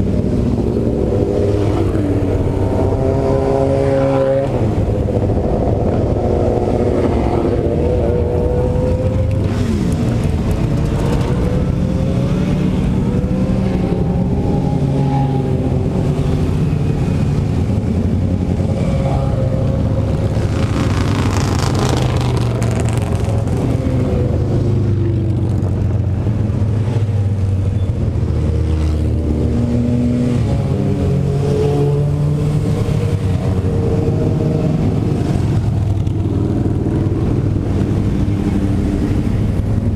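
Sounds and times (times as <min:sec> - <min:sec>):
motorcycle passing close: 0:00.0 - 0:39.9.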